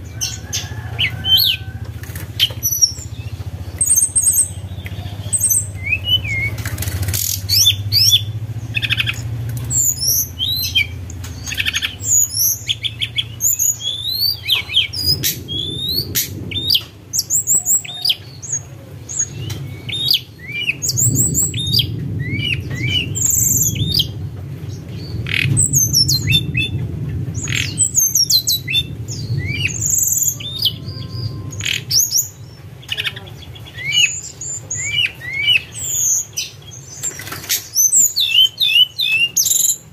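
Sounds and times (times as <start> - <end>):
low rumble: 0.0 - 37.0
songbird whistling: 2.4 - 24.1, 27.4 - 33.0, 33.7 - 39.8.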